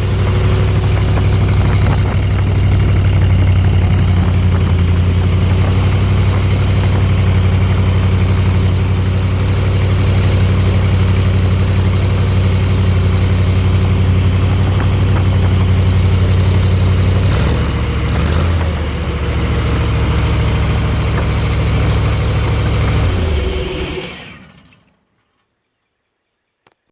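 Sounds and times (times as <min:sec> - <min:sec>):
air compressor engine running: 0:00.0 - 0:24.8.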